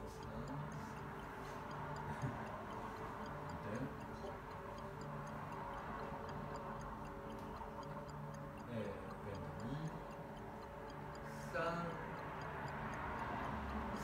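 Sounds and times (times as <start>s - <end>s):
faint high ticking: 0.0s - 14.0s.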